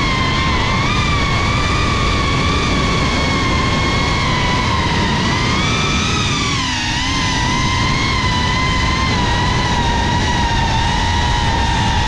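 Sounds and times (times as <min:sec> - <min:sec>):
drone motors whining: 0:00.0 - 0:12.0
wind rumble: 0:00.0 - 0:12.0.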